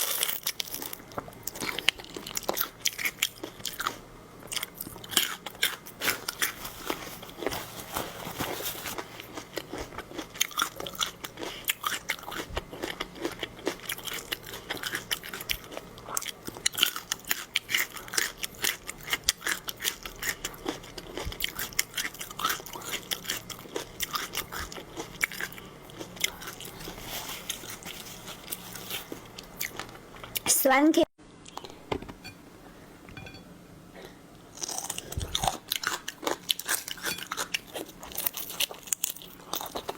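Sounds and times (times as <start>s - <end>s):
person chewing crunchy food: 0.0s - 30.4s, 33.9s - 39.9s.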